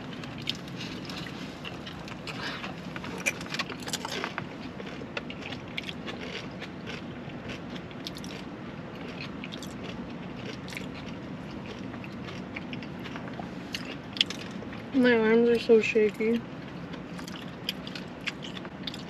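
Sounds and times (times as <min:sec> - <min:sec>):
person biting and chewing food: 0:00.2 - 0:14.9, 0:16.8 - 0:19.0.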